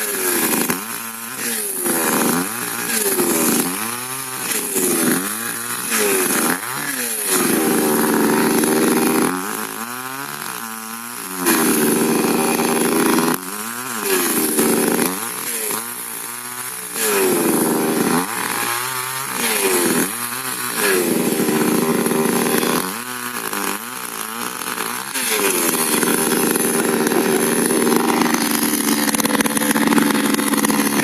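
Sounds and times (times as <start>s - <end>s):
chainsaw engine revving: 0.0s - 31.0s.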